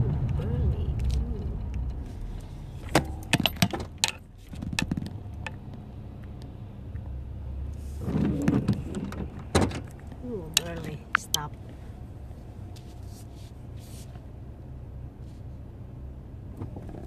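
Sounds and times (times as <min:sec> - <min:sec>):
car engine idling: 0:00.0 - 0:08.0, 0:08.8 - 0:17.0.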